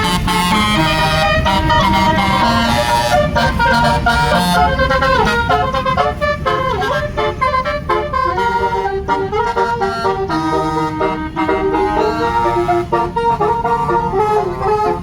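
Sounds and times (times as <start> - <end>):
multi-tone musical bus horn: 0.0 - 15.0.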